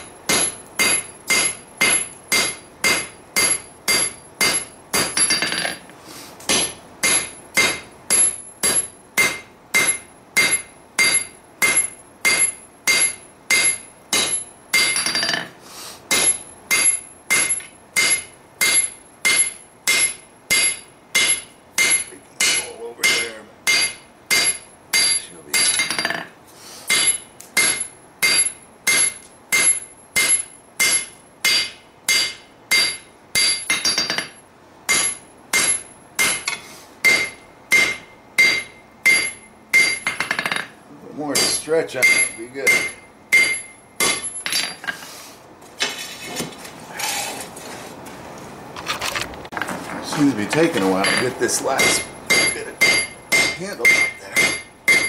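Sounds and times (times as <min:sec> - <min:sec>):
hammer ringing on anvil: 0:00.0 - 0:05.8, 0:06.5 - 0:15.5, 0:16.1 - 0:26.3, 0:26.9 - 0:44.9, 0:51.0 - 0:55.0.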